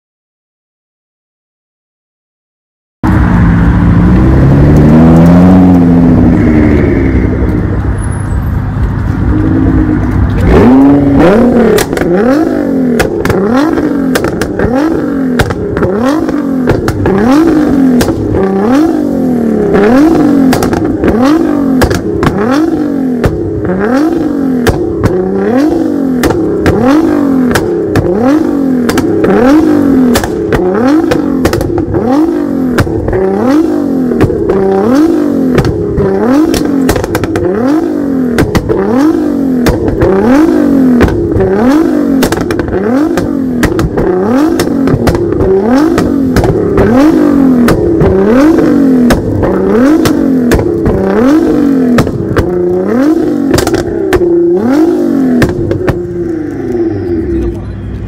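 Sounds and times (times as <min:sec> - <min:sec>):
car engine revving: 0:03.0 - 0:58.0
car engine running: 0:03.0 - 0:58.0
exhaust pops and crackles: 0:09.9 - 0:58.0.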